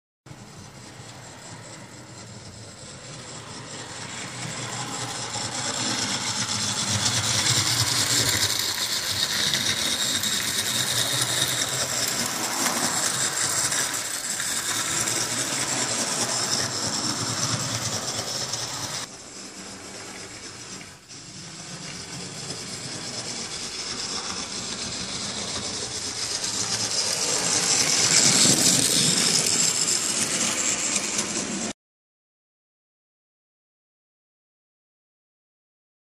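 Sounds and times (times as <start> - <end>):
model trains rolling on rails: 0.3 - 31.7.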